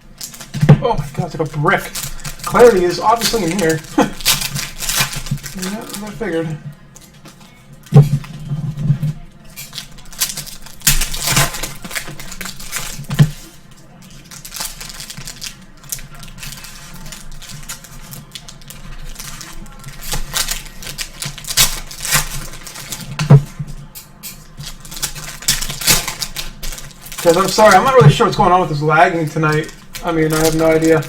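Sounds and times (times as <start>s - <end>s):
card pack clicking and crinkling: 0.2s - 8.4s, 9.5s - 23.6s, 24.3s - 31.0s.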